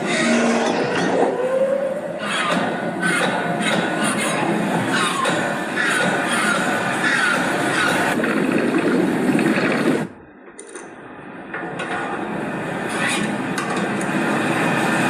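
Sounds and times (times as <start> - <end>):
machinery clanking and scraping: 0.0 - 15.0.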